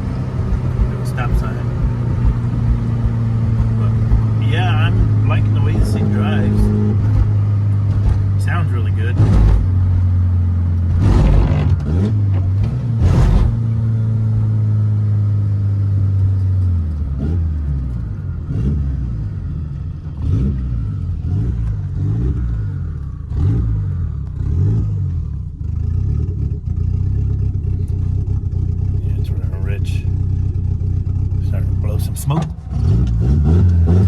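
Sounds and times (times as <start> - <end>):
car engine from inside: 0.0 - 34.0.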